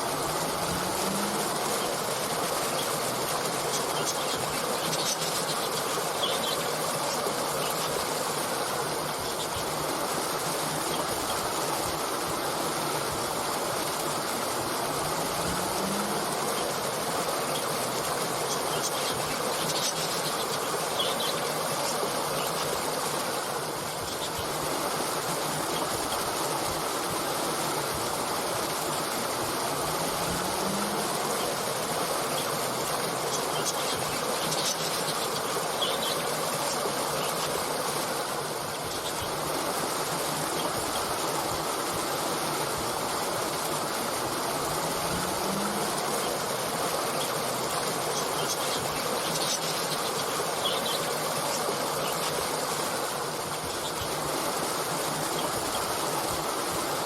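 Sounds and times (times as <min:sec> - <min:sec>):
stream rushing: 0:00.0 - 0:57.0.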